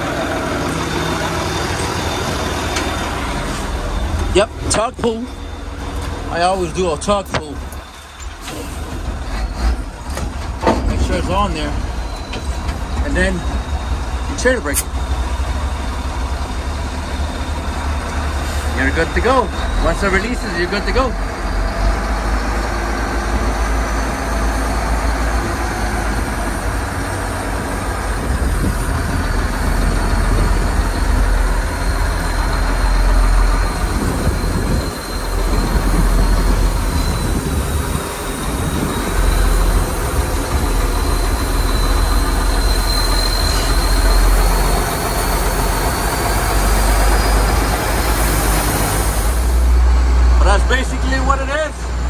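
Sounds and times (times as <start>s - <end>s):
diesel engine rumble: 0.0s - 52.0s.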